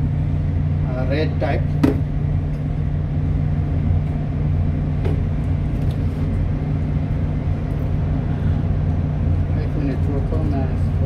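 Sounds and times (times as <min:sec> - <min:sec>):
ship machinery drone: 0:00.0 - 0:11.0.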